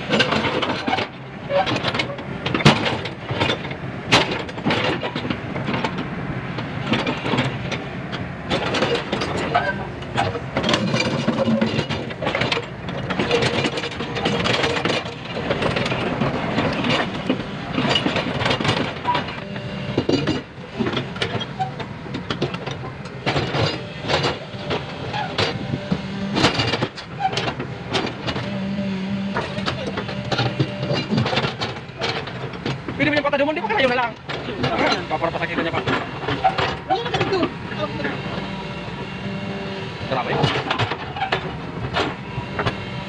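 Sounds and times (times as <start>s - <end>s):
excavator bucket scraping and clanking: 0.0s - 43.0s
excavator diesel engine running: 0.0s - 43.0s.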